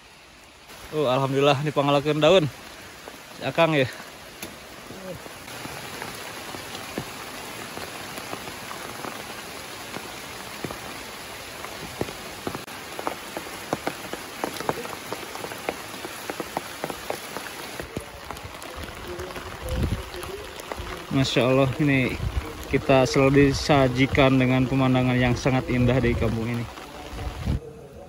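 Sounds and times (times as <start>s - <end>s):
heavy rain falling: 0.0s - 28.0s
raindrops striking close by: 0.0s - 28.0s.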